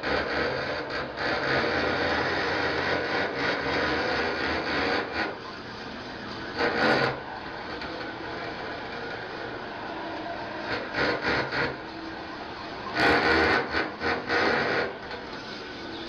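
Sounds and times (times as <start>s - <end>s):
rasping scraping noise: 0.0s - 16.0s.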